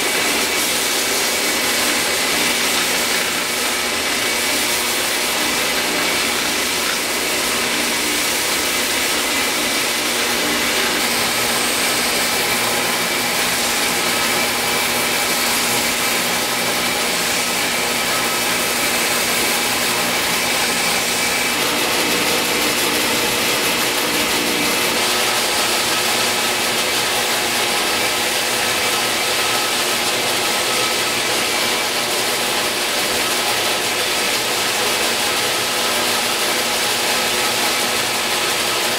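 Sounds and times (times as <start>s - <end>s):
belt sander and vacuum hiss: 0.0s - 38.9s.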